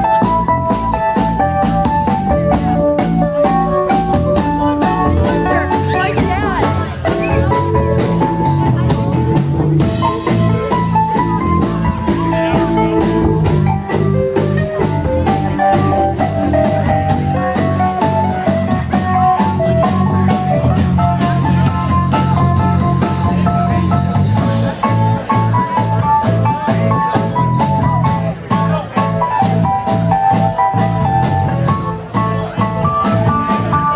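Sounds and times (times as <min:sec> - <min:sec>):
drum-kit beat: 0:00.0 - 0:33.9
live blues-rock band: 0:00.0 - 0:33.9.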